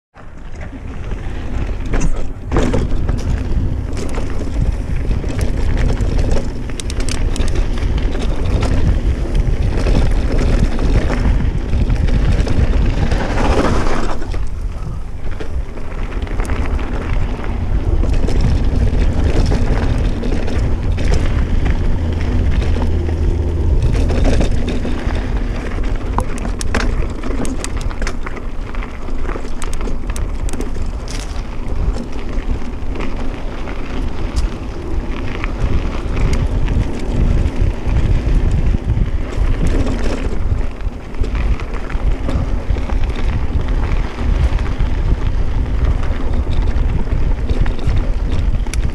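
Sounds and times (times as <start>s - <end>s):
bike rattles and clicks: 0.1s - 48.9s
tyre rumble on dirt: 0.2s - 48.9s
wind buffeting microphone: 0.2s - 48.9s.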